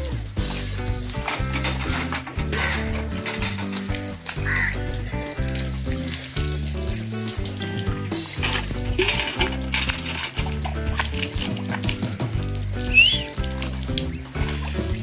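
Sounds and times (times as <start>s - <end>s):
background music with bass line: 0.0s - 15.0s
water gushing from hand pump: 0.0s - 15.0s.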